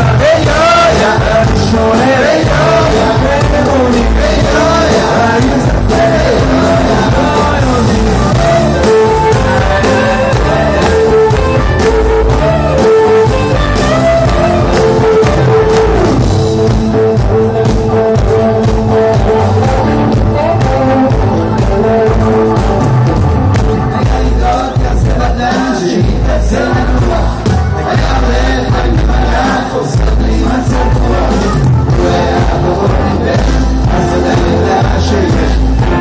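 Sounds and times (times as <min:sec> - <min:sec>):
live band amplified music: 0:00.0 - 0:36.0
person singing: 0:00.0 - 0:36.0.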